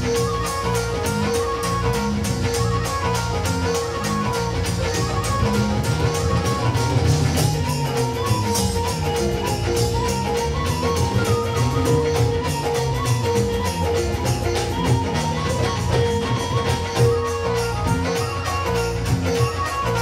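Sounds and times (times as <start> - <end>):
ornamented instrumental melody: 0.0 - 20.0
quick percussion beat: 0.0 - 20.0.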